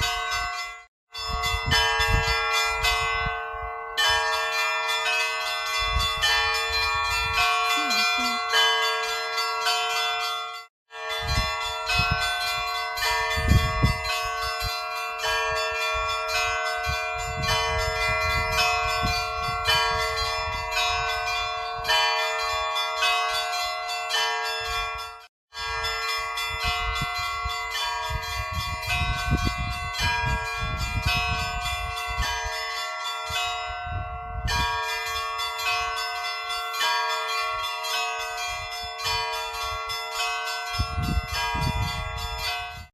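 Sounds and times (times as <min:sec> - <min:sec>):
church bells ringing: 0:00.0 - 0:42.9
low bell hum: 0:00.0 - 0:42.9.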